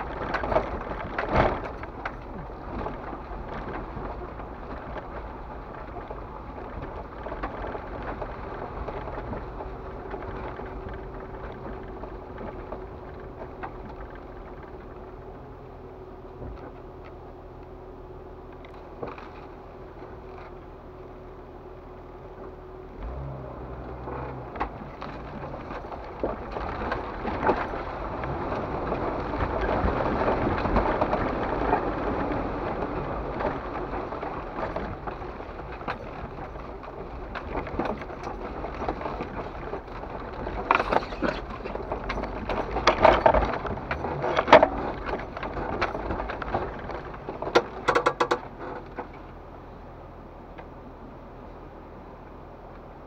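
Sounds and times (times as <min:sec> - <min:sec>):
tyres clunking over rocks: 0:00.0 - 0:17.7, 0:18.4 - 0:20.8, 0:23.0 - 0:49.5
off-road vehicle engine: 0:00.0 - 0:53.0.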